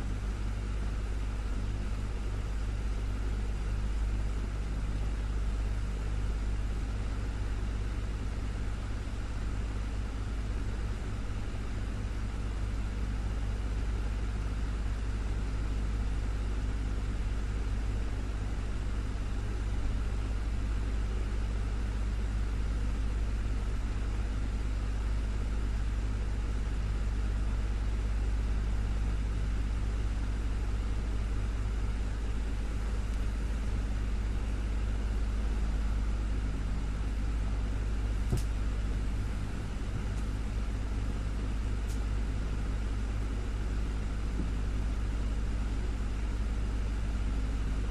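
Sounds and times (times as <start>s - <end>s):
desktop fan running: 0.0s - 47.9s.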